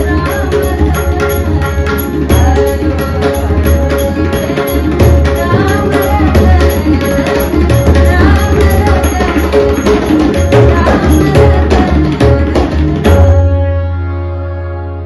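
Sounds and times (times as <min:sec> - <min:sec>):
woman singing: 0:00.0 - 0:13.2
hand drums playing: 0:00.0 - 0:13.9
droning harmonium: 0:00.0 - 0:15.0.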